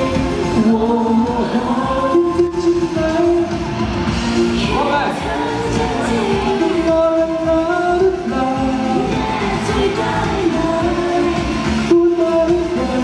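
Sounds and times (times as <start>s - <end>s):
man singing into microphone: 0.0s - 3.8s, 4.6s - 13.0s
pop music accompaniment: 0.0s - 13.0s.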